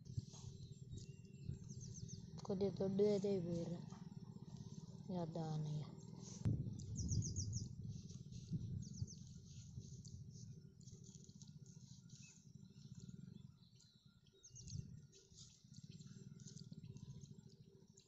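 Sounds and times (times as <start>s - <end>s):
low steady rumble: 0.0s - 18.0s
small birds chirping: 0.0s - 18.0s.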